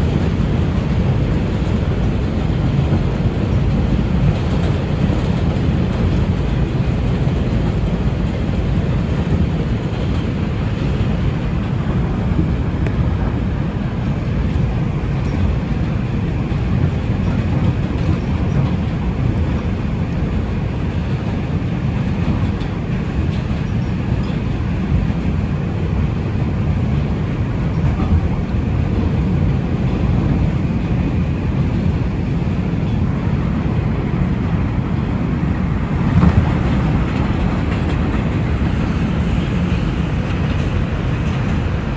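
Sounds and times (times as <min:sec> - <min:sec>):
subway train wheels on rails: 0:00.0 - 0:41.9.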